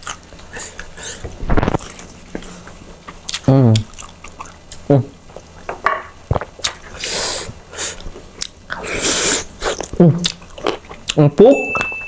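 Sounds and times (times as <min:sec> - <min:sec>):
chewing: 0:00.0 - 0:05.7, 0:06.3 - 0:11.2.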